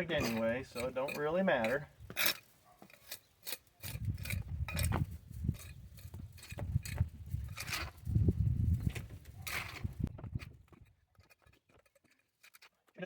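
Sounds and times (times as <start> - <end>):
trowel scraping wet concrete: 0.0 - 8.1, 8.8 - 13.0.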